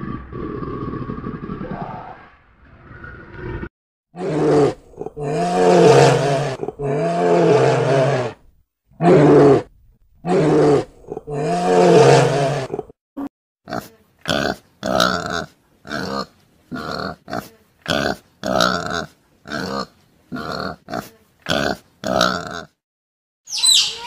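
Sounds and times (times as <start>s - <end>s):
pigs grunting: 0.0s - 2.2s, 4.2s - 8.4s, 9.0s - 13.0s, 13.7s - 22.8s.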